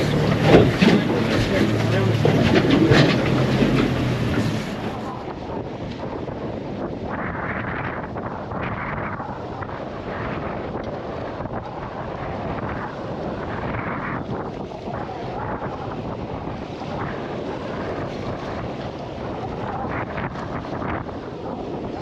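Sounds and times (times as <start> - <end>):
wind across microphone: 0.0 - 22.0.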